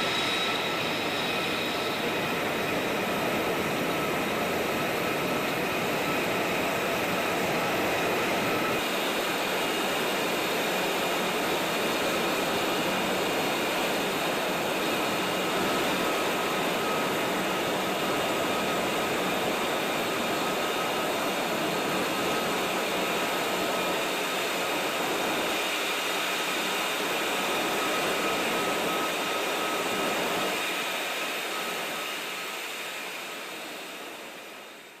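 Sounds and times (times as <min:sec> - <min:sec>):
jet engine rushing and whining: 0:00.0 - 0:35.0.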